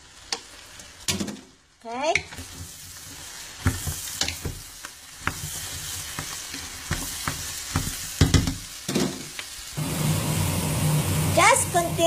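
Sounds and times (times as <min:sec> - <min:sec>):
food sizzling in butter: 0:00.0 - 0:01.1, 0:02.1 - 0:12.0.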